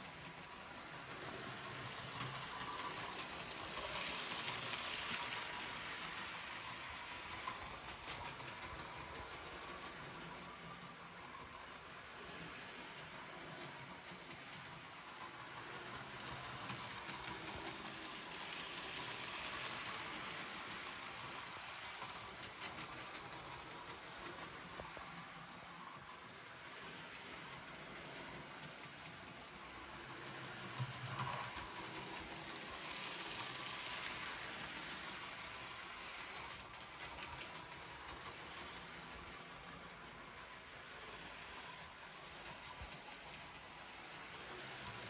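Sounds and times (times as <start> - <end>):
model train whirring on track: 0.0 - 45.0
wheels rolling on rails: 0.0 - 45.0.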